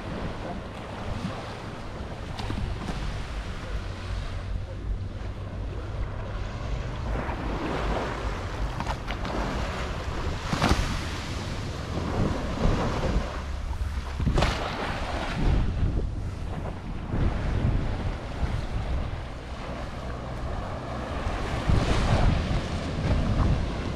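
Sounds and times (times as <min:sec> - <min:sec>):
small waves washing on shore: 0:00.0 - 0:23.9
water swishes: 0:00.0 - 0:23.9
wind rumbling on microphone: 0:00.0 - 0:23.9.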